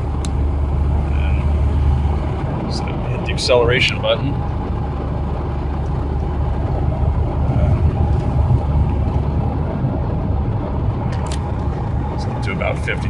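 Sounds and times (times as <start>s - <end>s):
diesel engine rumble in cab: 0.0s - 13.0s.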